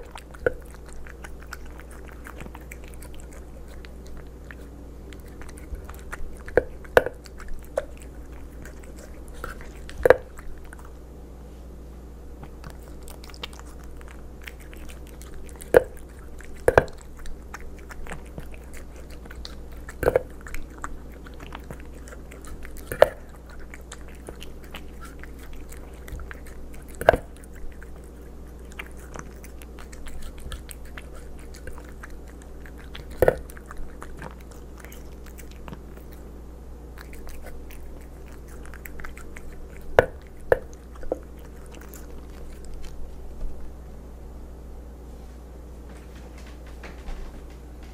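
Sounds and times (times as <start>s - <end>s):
cat chewing wet food: 0.0s - 11.0s, 12.3s - 43.9s
steady low hum: 0.0s - 47.9s.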